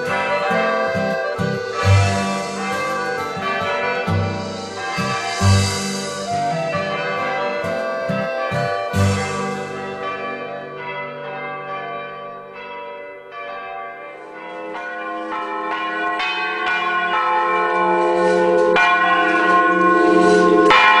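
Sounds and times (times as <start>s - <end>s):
bells ringing: 0.0s - 21.0s.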